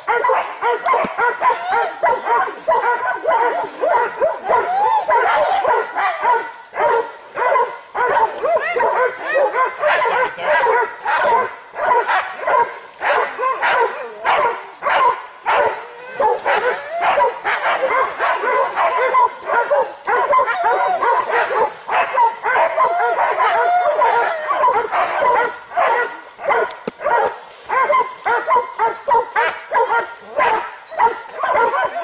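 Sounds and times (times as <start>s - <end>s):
dogs barking: 0.0s - 32.0s.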